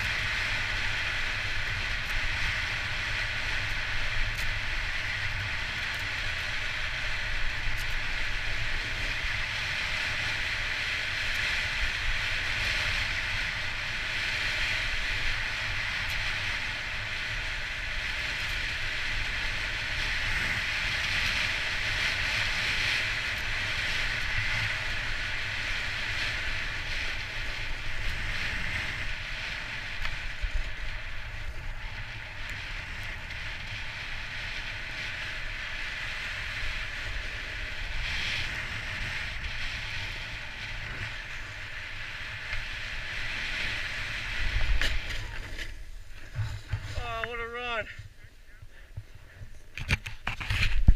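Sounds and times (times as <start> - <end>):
skis scraping on snow: 0.0 - 50.9
wind rushing on microphone: 0.0 - 50.9.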